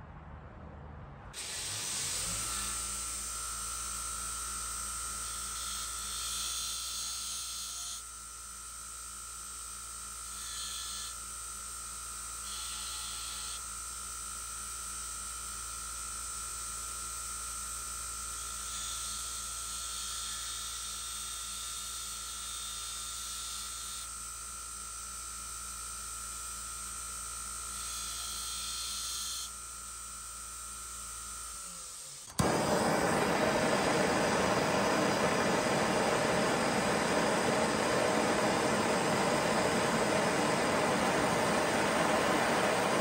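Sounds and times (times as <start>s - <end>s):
belt grinder whining and humming: 1.4s - 43.0s.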